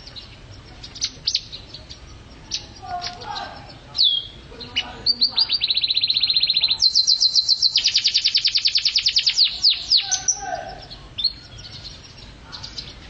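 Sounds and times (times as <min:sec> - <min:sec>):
songbird fast high trill: 0:00.9 - 0:12.0.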